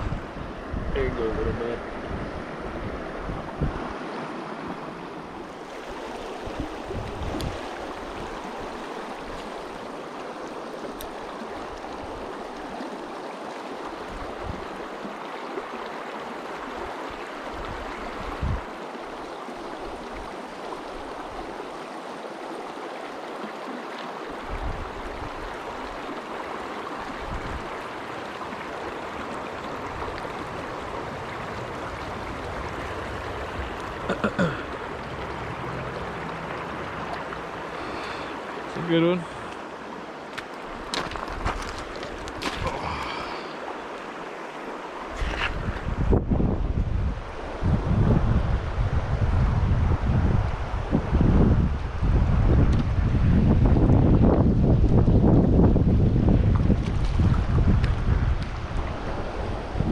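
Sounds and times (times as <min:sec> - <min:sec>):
river water rushing: 0:01.8 - 0:59.9.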